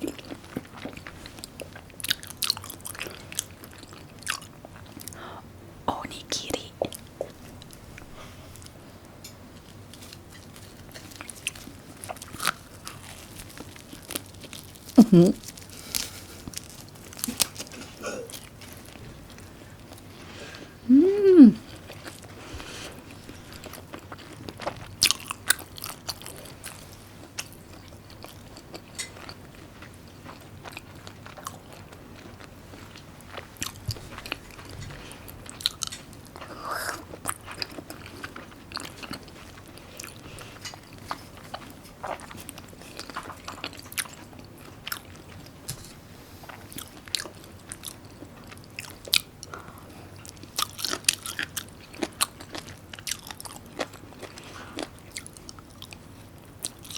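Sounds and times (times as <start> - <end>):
person chewing crunchy food: 0.0 - 5.2, 9.5 - 20.8, 21.6 - 56.9.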